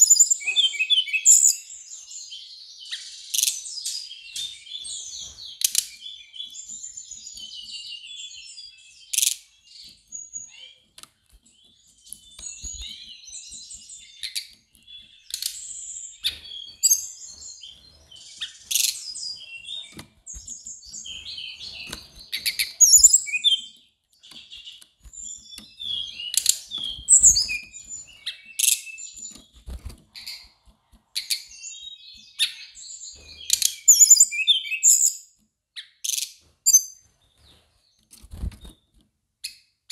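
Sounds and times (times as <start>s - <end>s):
bird singing high chirps: 0.0s - 39.7s.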